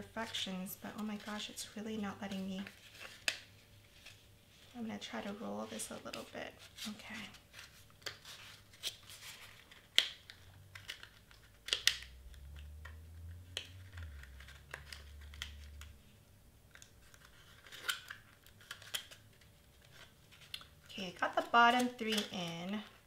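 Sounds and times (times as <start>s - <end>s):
cardstock crinkling: 0.0s - 16.1s, 16.7s - 23.0s.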